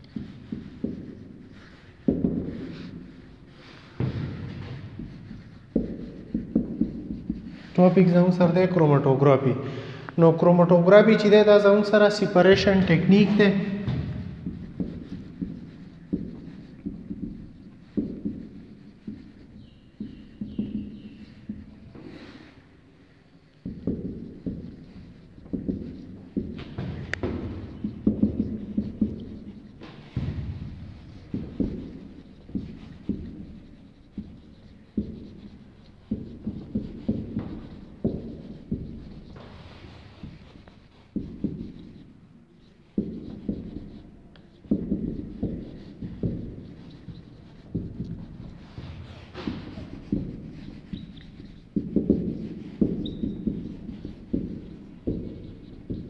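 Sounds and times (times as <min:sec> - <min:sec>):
marker pen tapping whiteboard: 0:00.0 - 0:08.9, 0:11.1 - 0:56.0.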